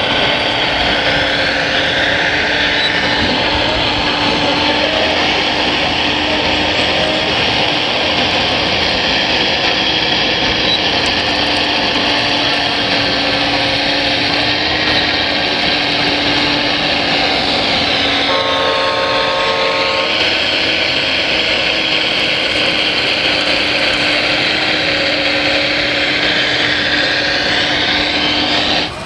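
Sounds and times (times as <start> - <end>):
small electric motors whirring: 0.0 - 29.0.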